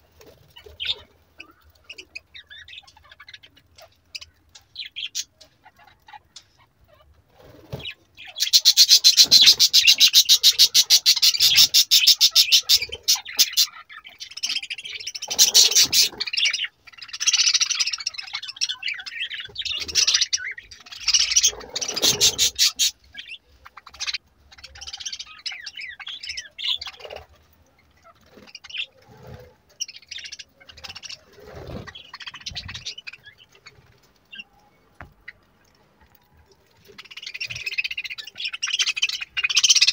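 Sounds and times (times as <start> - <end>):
budgerigars chirping and chattering: 0.2 - 35.4, 36.8 - 39.9.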